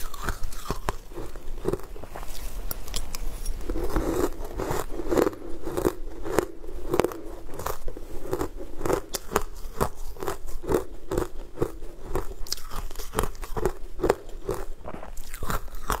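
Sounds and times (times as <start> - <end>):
crunchy ice chewing: 0.0 - 16.0.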